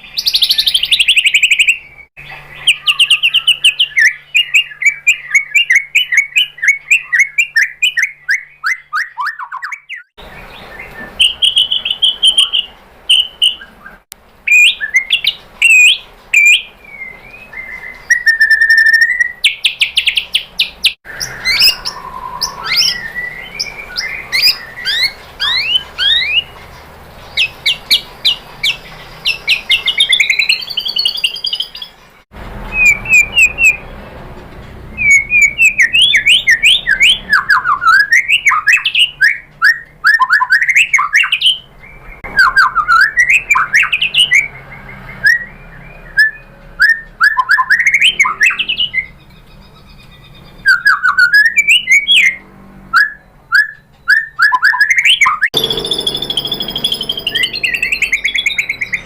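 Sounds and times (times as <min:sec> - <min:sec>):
bird singing whistled phrases and trills: 0:00.0 - 0:26.7, 0:27.3 - 0:31.9, 0:32.7 - 0:33.9, 0:35.0 - 0:59.0.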